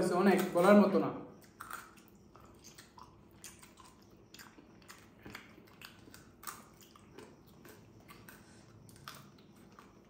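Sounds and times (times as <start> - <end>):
people chewing meat: 1.3 - 10.0.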